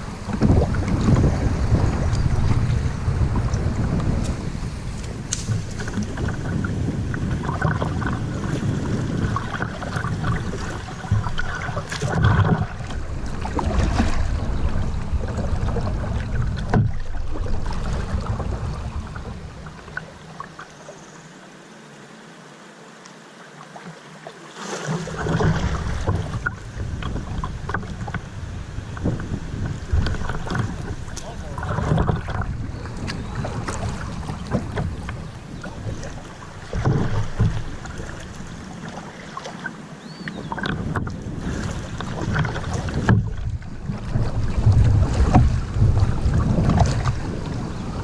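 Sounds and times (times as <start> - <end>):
wind rumbling on microphone: 0.0 - 20.6, 24.9 - 48.0
paddle strokes: 0.0 - 21.0, 23.0 - 48.0
water splashing: 0.0 - 21.3, 23.4 - 48.0.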